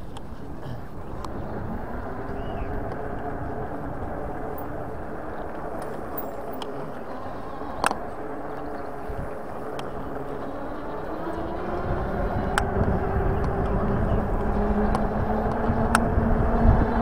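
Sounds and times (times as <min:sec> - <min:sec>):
faint motor hum: 0:00.0 - 0:17.0
tyres on tarmac: 0:00.0 - 0:17.0
wind noise: 0:00.0 - 0:17.0.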